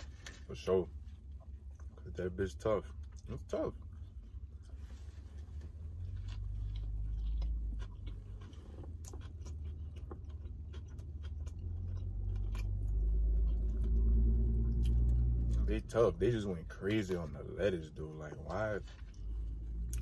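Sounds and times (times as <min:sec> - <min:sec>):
man chewing a burger: 0:00.0 - 0:15.7, 0:16.7 - 0:20.0
low rumble: 0:02.9 - 0:20.0.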